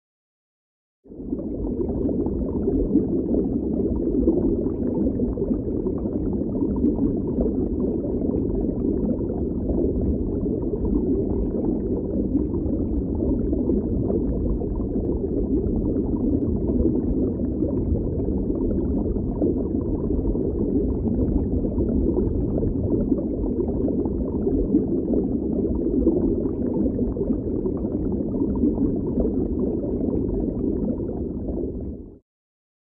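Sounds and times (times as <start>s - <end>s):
muffled underwater rumble: 1.1s - 32.2s
water bubbling and gurgling: 1.1s - 32.2s.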